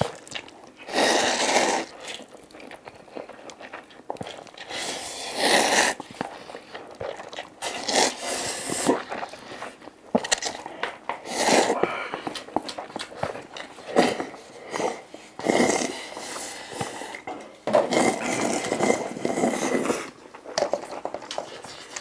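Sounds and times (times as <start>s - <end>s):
chopsticks scraping paper cups: 0.0s - 22.0s
noodles slurped: 0.0s - 22.0s.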